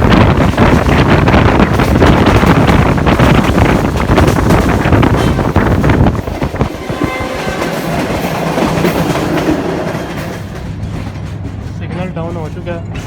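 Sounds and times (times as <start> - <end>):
wind noise: 0.0 - 11.8
train wheels clattering on rails: 0.0 - 13.0.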